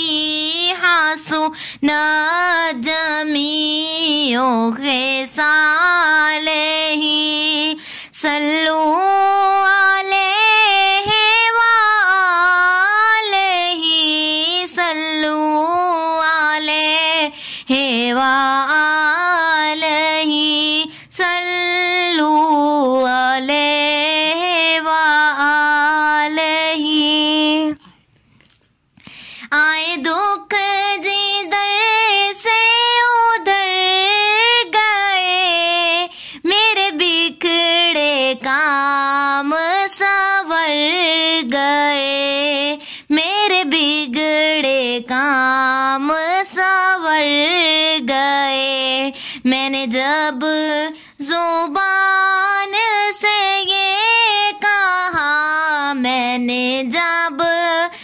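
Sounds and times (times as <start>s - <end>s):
person singing devotional song: 0.0s - 58.0s.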